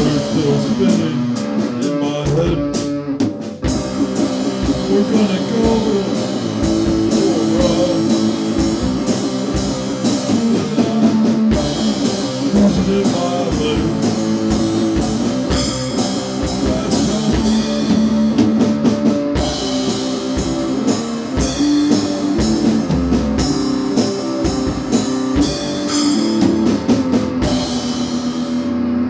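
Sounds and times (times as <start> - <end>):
drum run: 0.0 - 29.0
rock band instrumental: 0.0 - 29.0.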